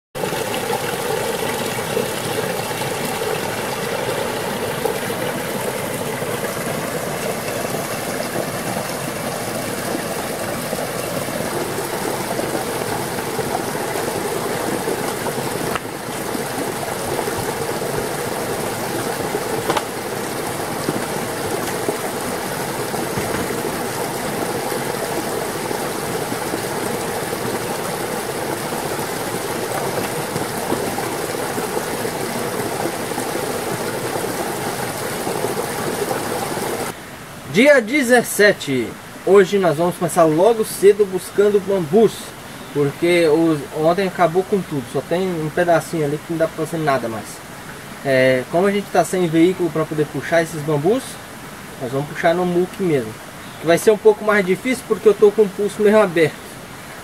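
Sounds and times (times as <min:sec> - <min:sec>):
running water: 0:00.2 - 0:57.0.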